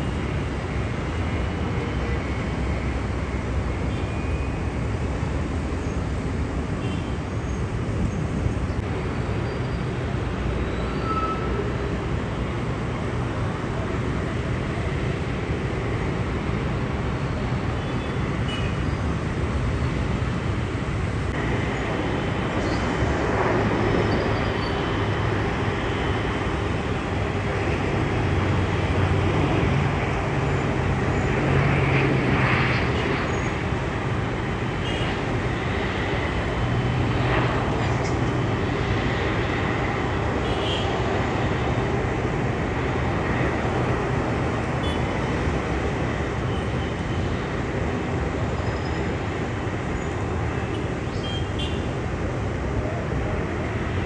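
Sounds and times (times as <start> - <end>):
jet engines roaring: 7.7 - 54.0.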